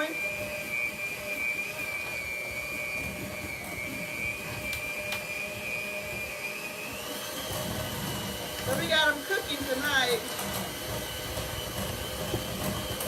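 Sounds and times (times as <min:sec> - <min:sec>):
electric mixer whining: 0:00.0 - 0:13.0.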